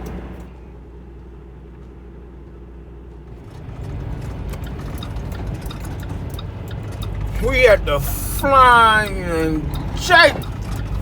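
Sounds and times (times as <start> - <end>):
diesel truck engine rumble: 0.0 - 11.0.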